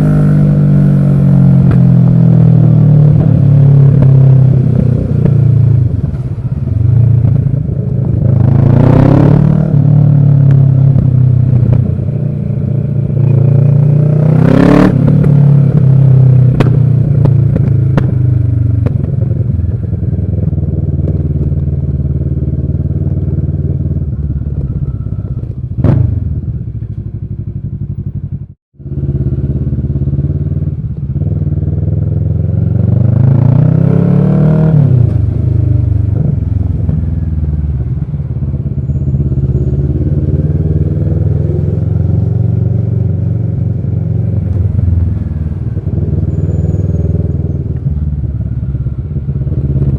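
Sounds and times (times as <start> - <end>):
motorcycle engine revving: 0.0 - 26.9, 27.5 - 49.9.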